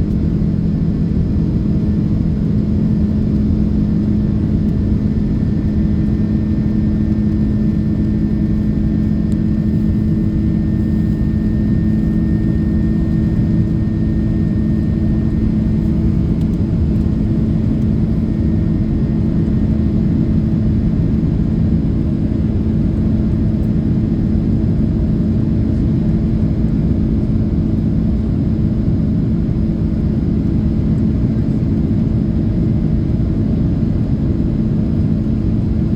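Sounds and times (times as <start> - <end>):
jet engines droning in cabin: 0.0 - 35.9.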